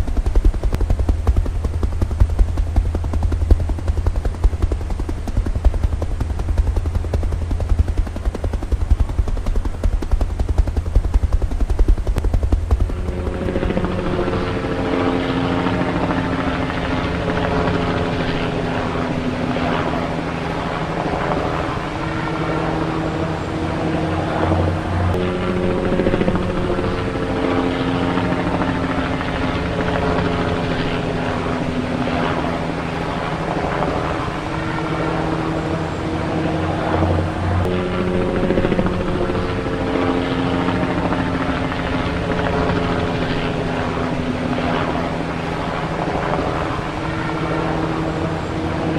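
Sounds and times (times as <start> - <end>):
helicopter rotor chopping: 0.0 - 48.9.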